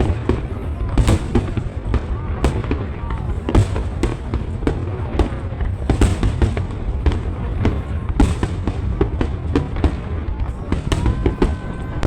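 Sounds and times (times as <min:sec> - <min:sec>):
fireworks cracks and bangs: 0:00.0 - 0:12.0
low rumble of booms: 0:00.0 - 0:12.0.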